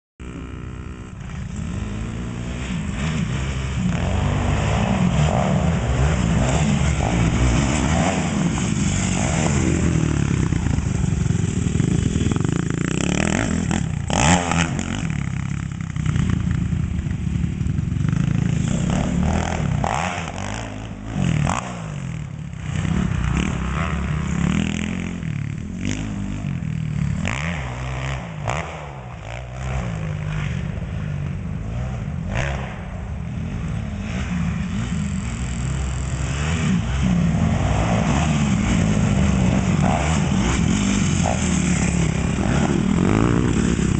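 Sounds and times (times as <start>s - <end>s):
dirt bike engine revving: 0.2s - 43.9s.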